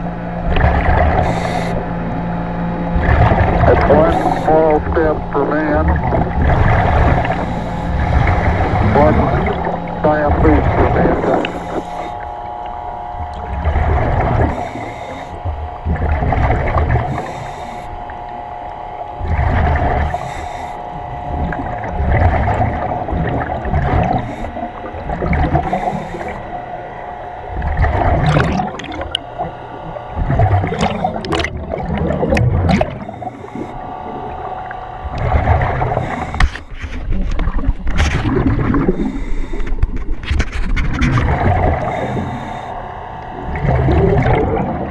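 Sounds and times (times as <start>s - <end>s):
exhaust bubbles rushing: 0.0s - 14.8s, 15.4s - 26.5s, 27.4s - 33.1s, 34.1s - 36.4s, 37.1s - 39.1s, 40.9s - 42.2s, 43.3s - 44.9s
steady hum: 0.0s - 44.9s.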